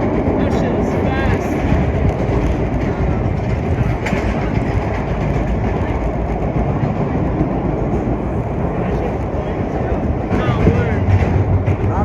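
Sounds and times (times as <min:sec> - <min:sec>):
subway train wheels rumbling on rail: 0:00.0 - 0:12.0.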